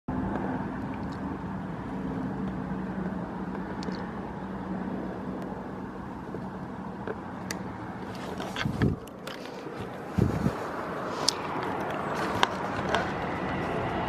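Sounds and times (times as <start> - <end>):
helicopter flying overhead: 0.1 - 14.0.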